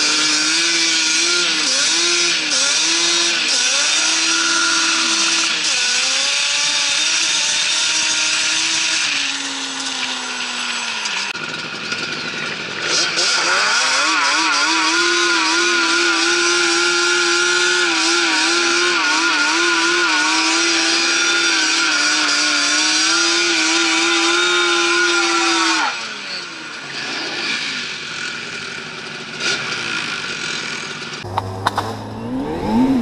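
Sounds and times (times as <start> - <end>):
quad engine revving: 0.0 - 33.0.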